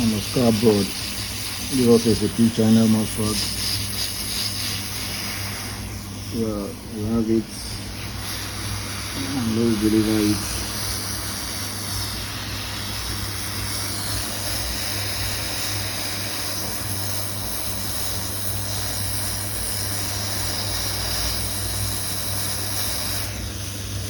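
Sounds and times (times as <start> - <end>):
hot air station blowing: 0.0 - 24.0.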